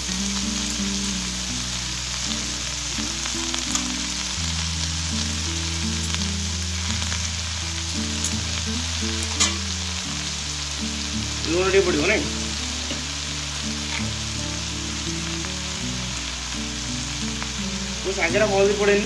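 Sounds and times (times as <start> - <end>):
spinach sizzling in a pan: 0.0 - 19.0.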